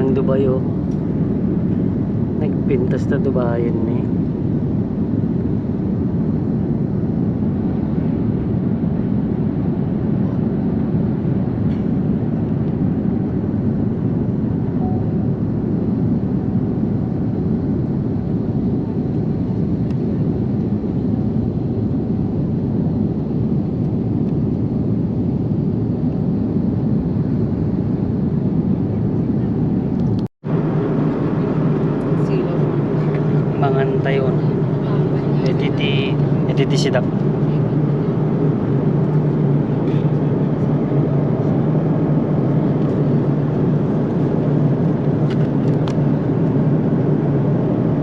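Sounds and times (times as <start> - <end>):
jet cabin engine and airflow rush: 0.0 - 48.0.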